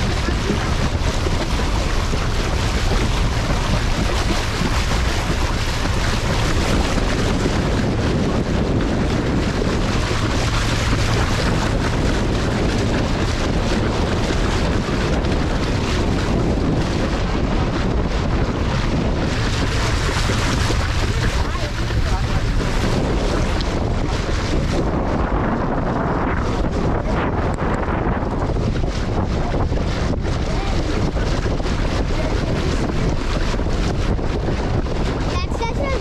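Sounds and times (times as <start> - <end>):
water rushing along boat: 0.0 - 36.0
wind buffeting microphone: 0.0 - 36.0.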